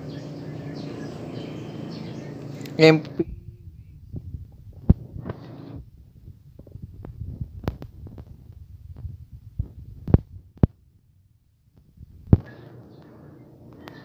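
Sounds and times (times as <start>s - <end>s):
low rumble: 0.8s - 14.0s.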